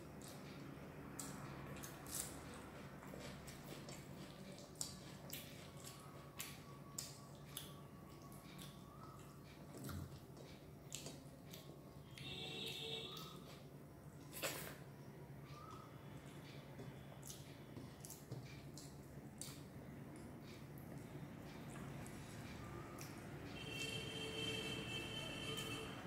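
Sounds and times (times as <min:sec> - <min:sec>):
wet chewing sounds: 0:00.0 - 0:14.8, 0:15.5 - 0:23.7.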